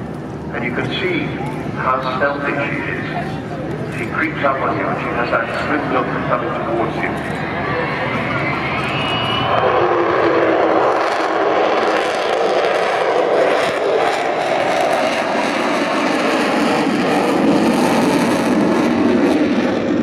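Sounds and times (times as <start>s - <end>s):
jet aircraft flying past: 0.0s - 20.0s.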